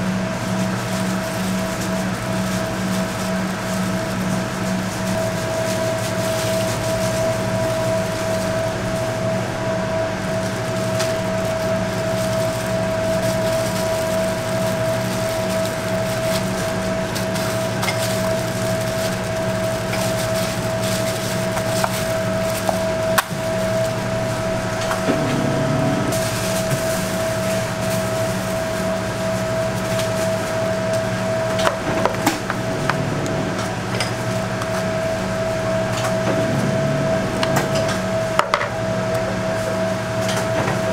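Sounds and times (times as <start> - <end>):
steady machine hum: 0.0 - 40.9.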